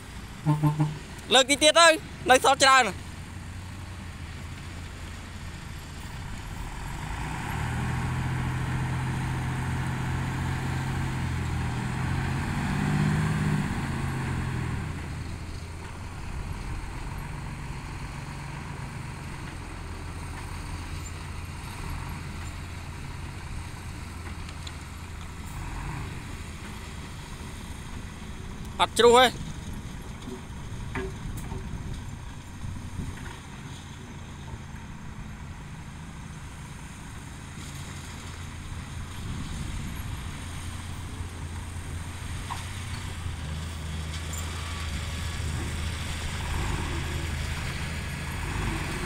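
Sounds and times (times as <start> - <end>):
truck engine idling and revving: 0.0 - 49.0.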